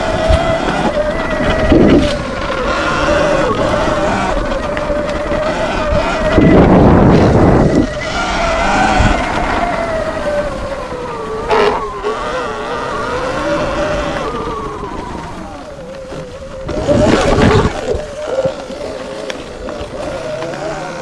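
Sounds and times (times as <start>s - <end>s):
electric motor whining: 0.0s - 21.0s
rush of wind: 0.0s - 21.0s
tyre noise: 0.0s - 21.0s.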